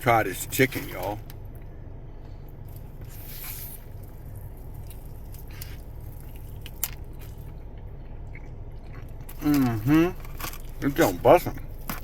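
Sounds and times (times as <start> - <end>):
steady low hum: 0.0 - 12.0
person chewing fried chicken: 2.2 - 12.0.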